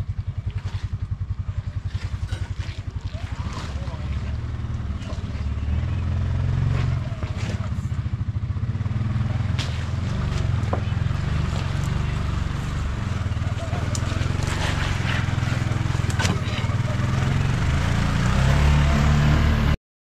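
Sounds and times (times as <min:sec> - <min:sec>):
off-road vehicle engine running: 0:00.0 - 0:19.8.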